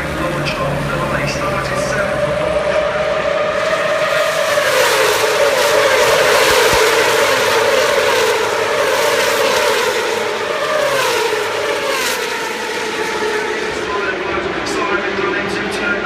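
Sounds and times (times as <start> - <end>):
racing motorcycles passing: 0.0 - 16.0.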